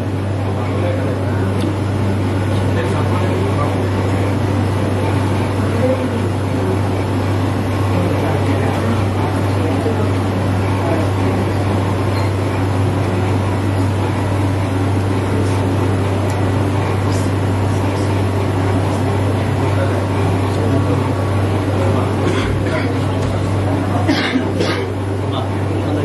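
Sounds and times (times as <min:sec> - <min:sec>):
background hiss and murmur: 0:00.0 - 0:26.0
low mechanical hum: 0:00.0 - 0:26.0.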